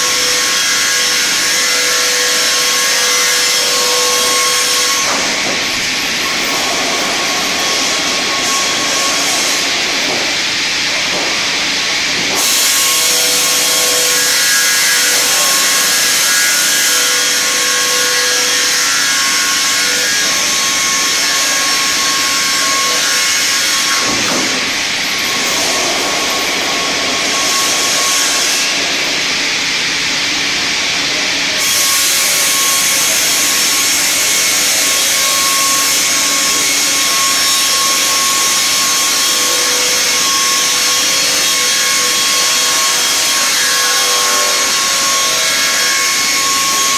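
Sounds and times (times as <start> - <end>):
circular sawmill cutting log: 0.0 - 46.9.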